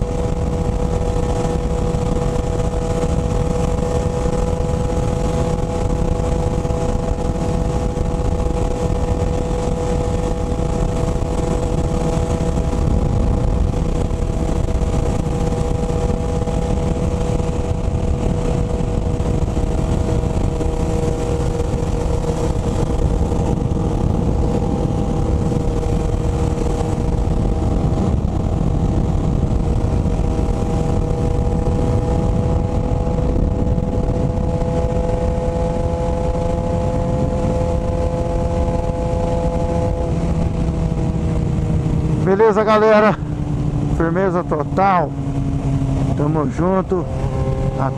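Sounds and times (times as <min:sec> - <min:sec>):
motorcycle engine cruising: 0:00.0 - 0:47.9
wind noise: 0:00.0 - 0:47.9.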